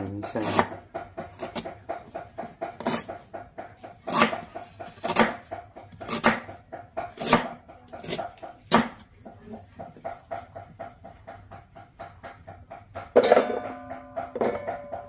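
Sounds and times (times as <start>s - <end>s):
knife chopping on a board: 0.0s - 13.2s.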